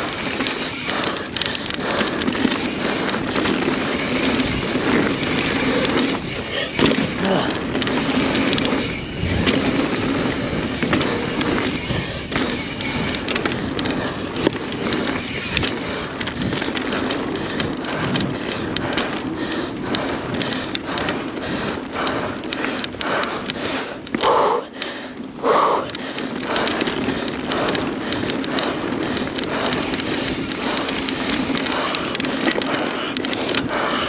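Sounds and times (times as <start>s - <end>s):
tyres rushing on dirt: 0.0s - 24.2s, 25.9s - 34.0s
bike rattling over bumps: 0.0s - 34.0s.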